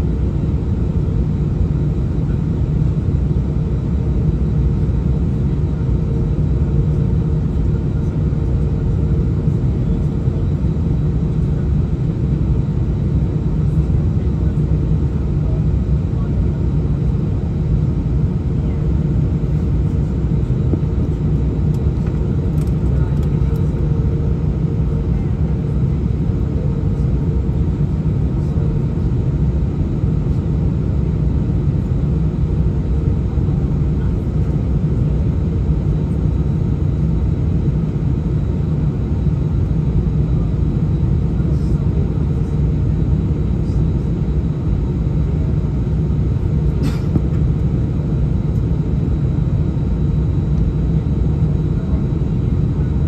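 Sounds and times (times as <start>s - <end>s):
airplane cabin rumble: 0.0s - 53.0s
jet engines humming: 9.0s - 53.0s.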